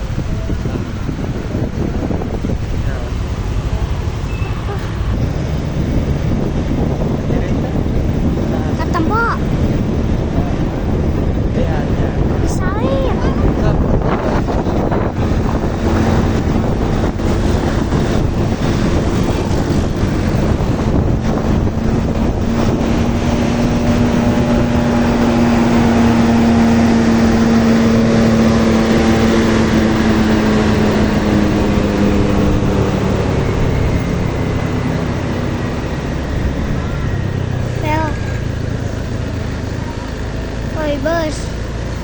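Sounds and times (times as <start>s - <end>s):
bus engine droning: 0.0s - 42.0s
wind buffeting microphone: 0.0s - 42.0s.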